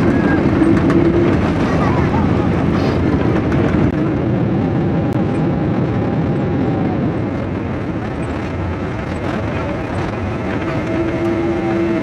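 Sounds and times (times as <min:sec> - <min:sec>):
airliner engines and wheels rumbling: 0:00.0 - 0:12.0.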